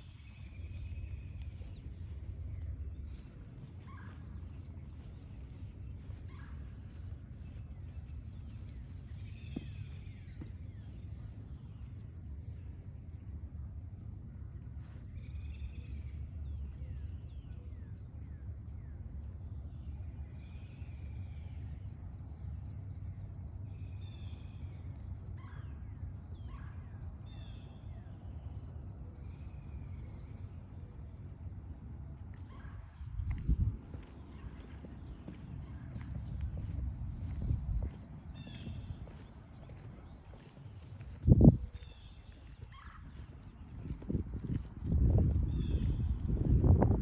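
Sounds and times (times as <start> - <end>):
steady low rumble: 0.0 - 20.2, 21.2 - 47.0.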